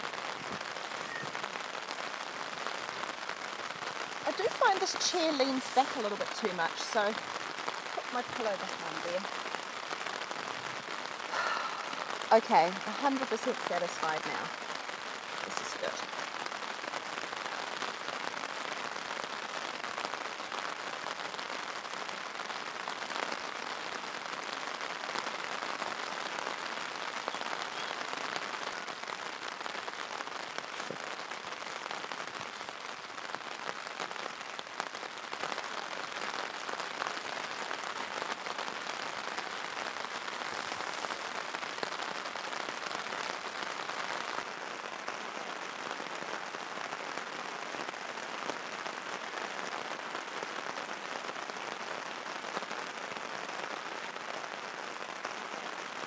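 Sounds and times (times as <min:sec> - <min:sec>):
heavy rain on a tarp: 0:00.0 - 0:56.0.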